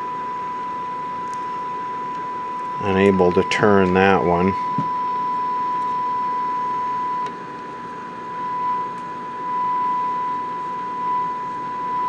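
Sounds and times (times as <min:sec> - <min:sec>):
steady test tone from speaker: 0:00.0 - 0:12.0.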